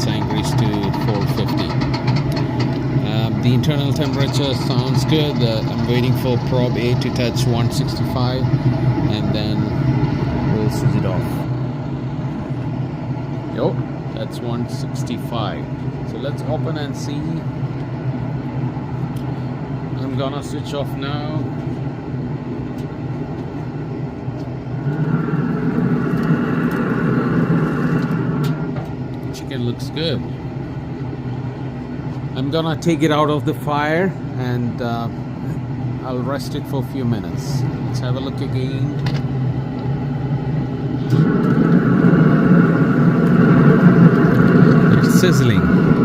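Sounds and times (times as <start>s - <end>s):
smoker fan hum and rushing air: 0.0s - 46.0s.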